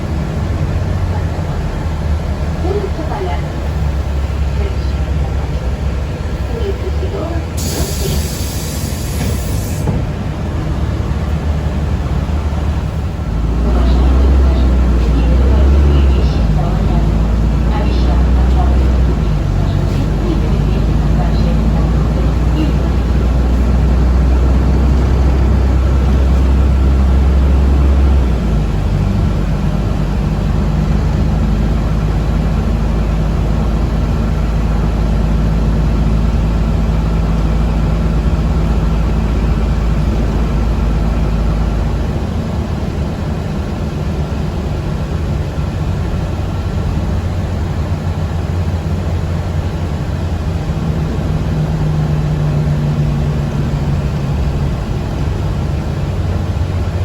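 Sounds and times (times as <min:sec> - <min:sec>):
vehicle engine rumble from inside cabin: 0:00.0 - 0:57.0.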